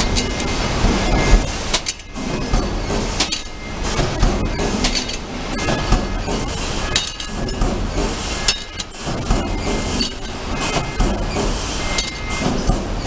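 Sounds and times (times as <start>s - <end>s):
stamping press machine din: 0.0s - 13.0s
metal dishes clinking onto conveyor: 1.2s - 7.8s, 8.4s - 12.8s.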